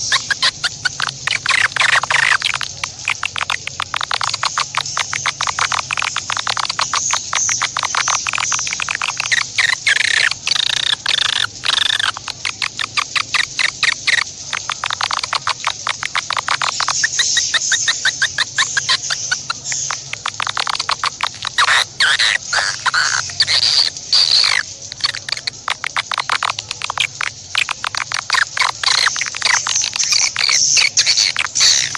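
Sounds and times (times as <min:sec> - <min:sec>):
animal chirping: 0:00.0 - 0:31.9
animal clicking chattering calls: 0:00.0 - 0:31.9.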